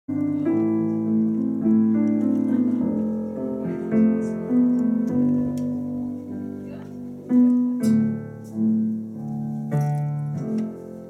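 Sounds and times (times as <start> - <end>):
slow piano music: 0.1 - 11.0.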